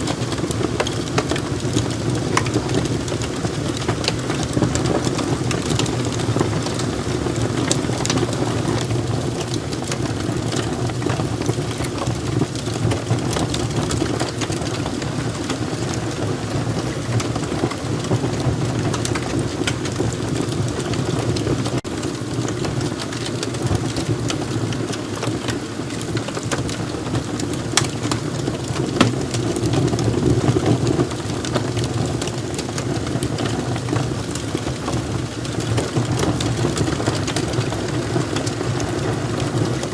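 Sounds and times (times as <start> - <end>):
fire flames rushing: 0.0 - 39.9
logs crackling and popping: 0.0 - 39.9.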